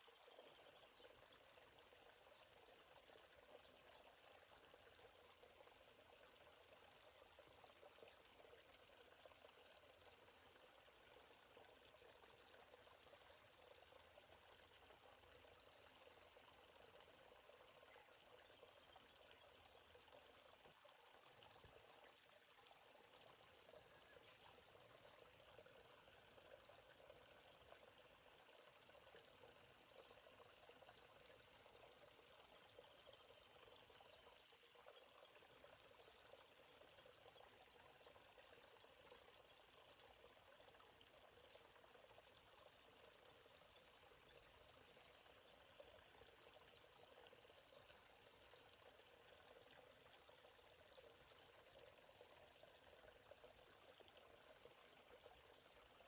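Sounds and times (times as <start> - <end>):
babbling stream: 0.0 - 56.0
insects trilling: 0.0 - 56.0.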